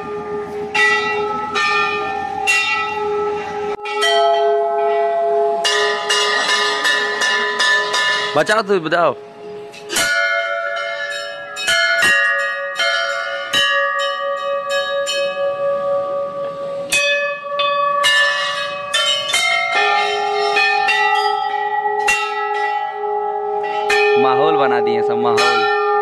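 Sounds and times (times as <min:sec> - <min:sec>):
temple bells ringing: 0:00.0 - 0:26.0.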